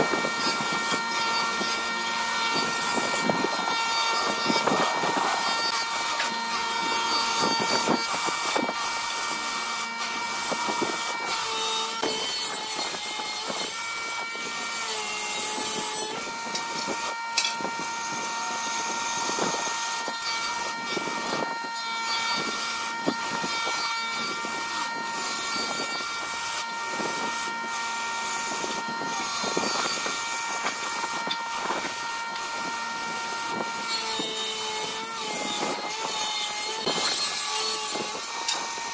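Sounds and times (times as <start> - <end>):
gouge scraping wood: 0.0 - 17.7, 18.6 - 38.9
lathe motor whine: 0.0 - 38.9.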